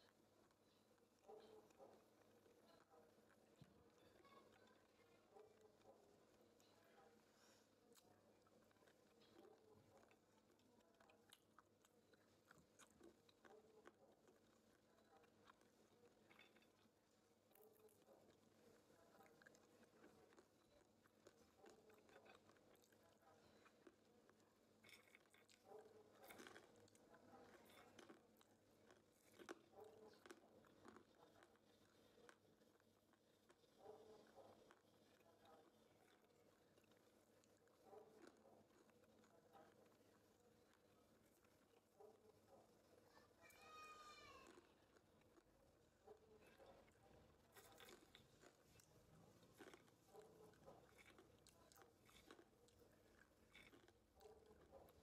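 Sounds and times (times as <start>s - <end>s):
crunching and chewing nuts: 0.0s - 55.0s.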